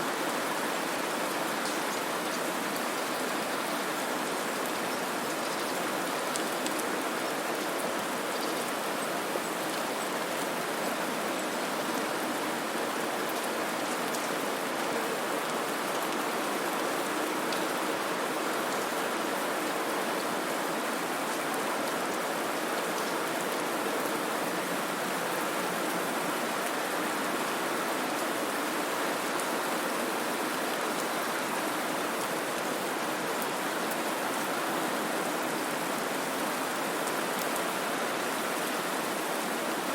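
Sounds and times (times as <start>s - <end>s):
steady rain-like hiss: 0.0s - 39.9s.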